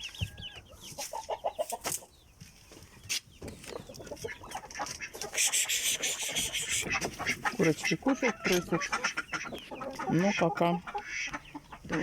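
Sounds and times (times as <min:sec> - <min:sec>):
chickens clucking and peeping: 0:00.0 - 0:12.0.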